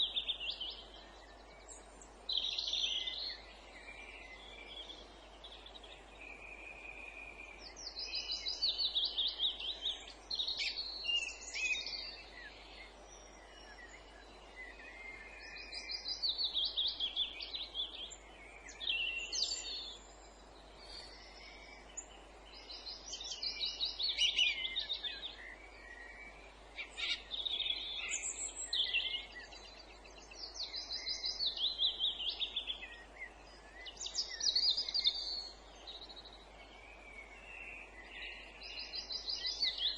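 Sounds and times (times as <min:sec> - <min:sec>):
quieter bird calls: 0:00.0 - 0:39.9.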